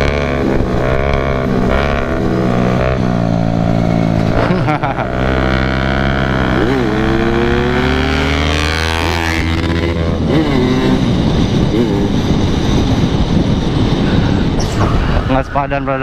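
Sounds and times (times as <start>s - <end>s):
wind rumble on microphone: 0.0s - 4.9s, 5.5s - 16.0s
motorcycle engine revving: 0.0s - 15.3s.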